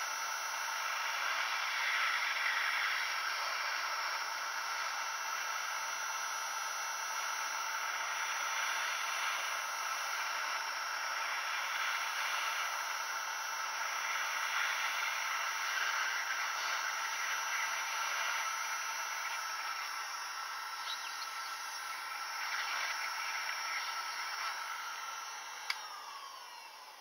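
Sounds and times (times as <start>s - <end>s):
hot air gun blowing: 0.0s - 27.0s.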